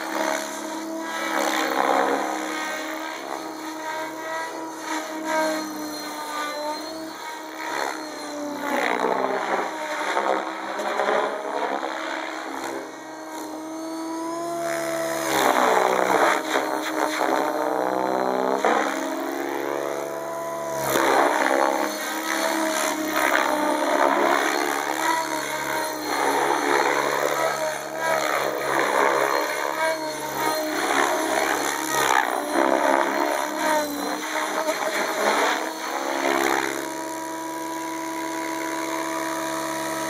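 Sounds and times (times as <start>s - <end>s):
rc helicopter rotor whine: 0.0s - 40.0s.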